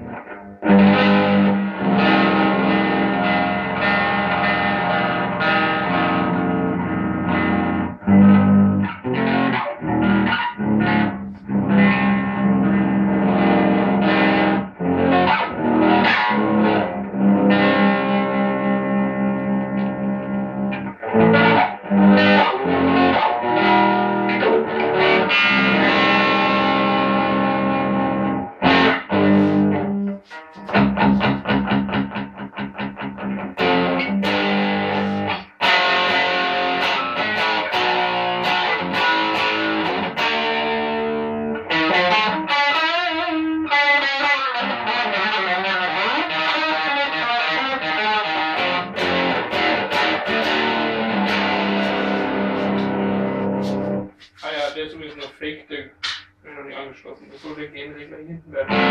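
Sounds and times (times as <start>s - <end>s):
distorted electric guitar: 0.0s - 55.3s, 56.0s - 58.9s.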